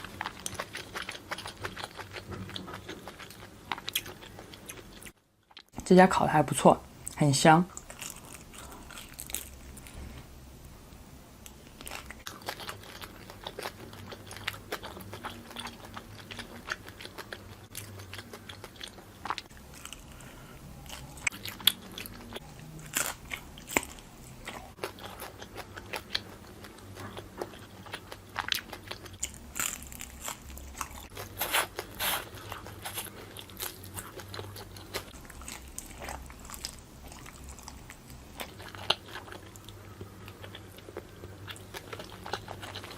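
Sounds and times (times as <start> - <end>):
person chewing food: 0.0 - 5.7, 7.7 - 10.2, 11.5 - 42.9.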